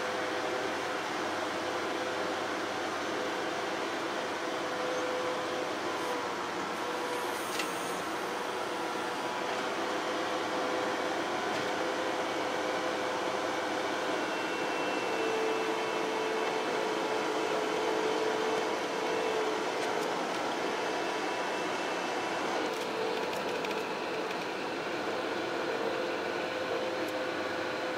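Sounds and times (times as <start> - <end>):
engine whine: 0.0 - 27.9
skid-steer loader engine drone: 0.0 - 27.9.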